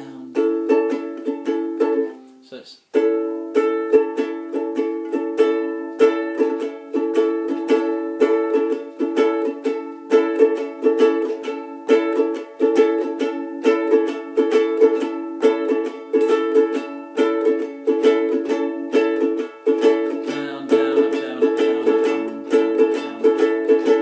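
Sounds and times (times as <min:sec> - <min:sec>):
acoustic strings strummed: 0:00.0 - 0:24.0.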